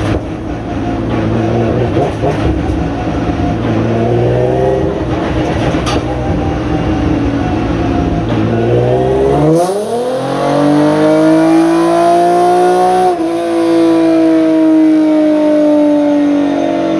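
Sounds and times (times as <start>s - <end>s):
race car engine revving: 0.0s - 16.9s.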